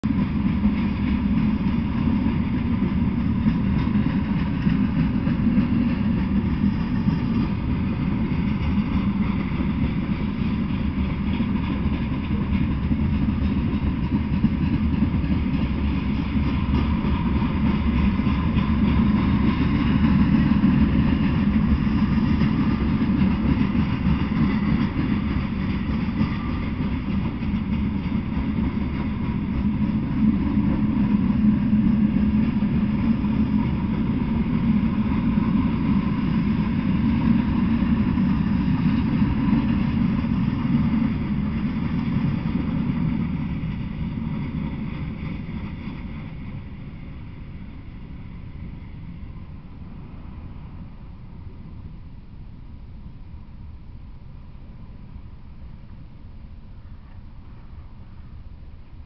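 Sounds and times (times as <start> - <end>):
freight train wheels rolling: 0.0 - 59.0.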